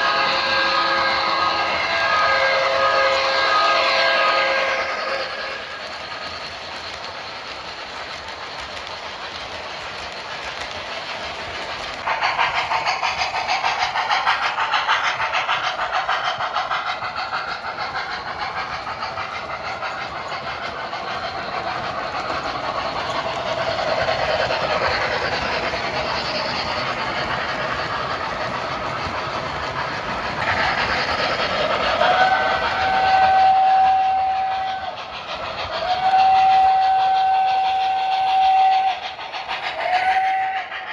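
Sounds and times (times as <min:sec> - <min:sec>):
model steam locomotive chuffing: 0:00.0 - 0:40.9
steady rolling hiss: 0:00.0 - 0:40.9.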